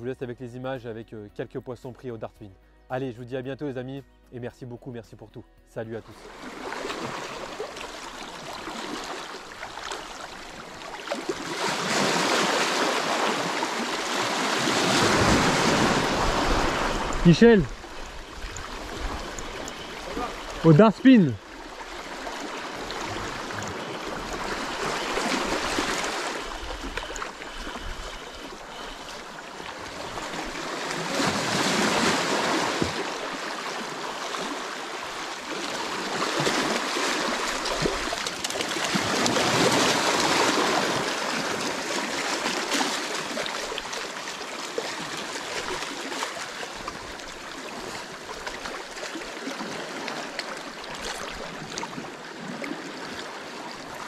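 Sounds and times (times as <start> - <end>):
sea water washing over rocks: 6.2 - 54.0.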